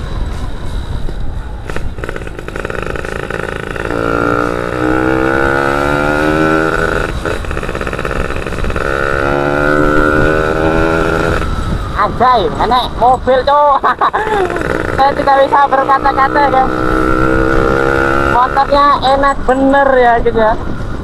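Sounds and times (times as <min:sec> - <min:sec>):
two-stroke motorcycle accelerating: 0:01.6 - 0:19.4.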